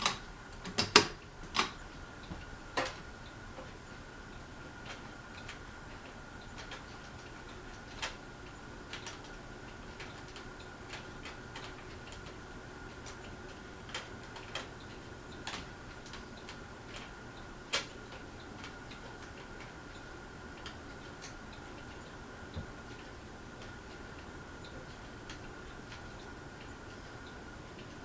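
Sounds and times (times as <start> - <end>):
ceiling fan motor whine: 0.0 - 28.0
light clicks and ticks: 0.0 - 28.0.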